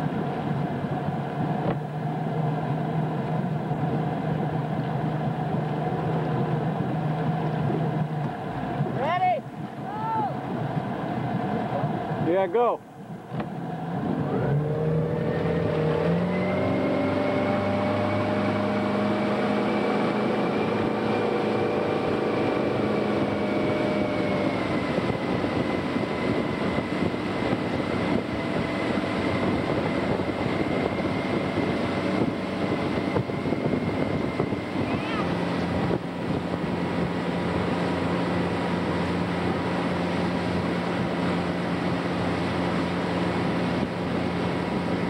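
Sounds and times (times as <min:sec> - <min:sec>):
boat engine throttling up: 0:00.0 - 0:45.0
rushing wind: 0:00.0 - 0:45.0.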